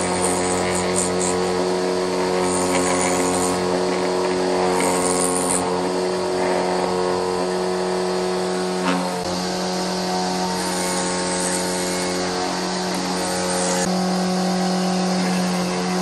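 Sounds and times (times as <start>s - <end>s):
cutter head shaving wood: 0.0s - 16.0s
motor hum: 0.0s - 16.0s.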